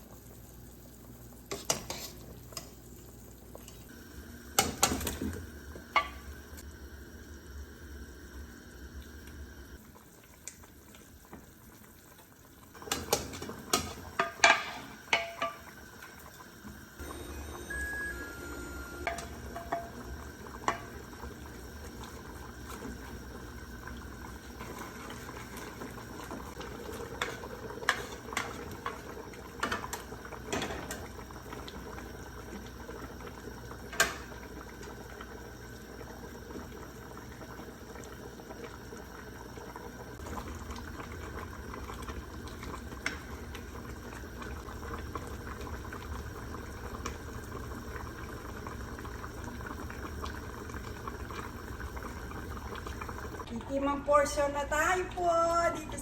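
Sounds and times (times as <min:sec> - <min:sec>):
soup boiling in a pot: 0:00.0 - 0:56.0.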